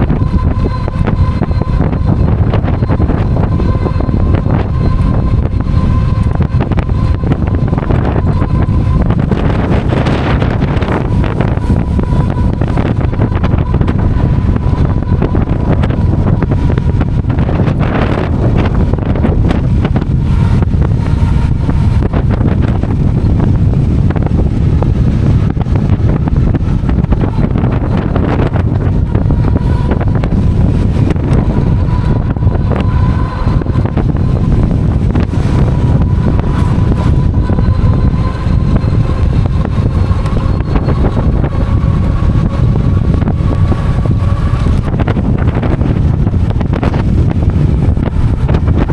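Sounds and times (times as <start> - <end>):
faint thin whine: 0.0 - 48.9
wind buffeting microphone: 0.0 - 48.9.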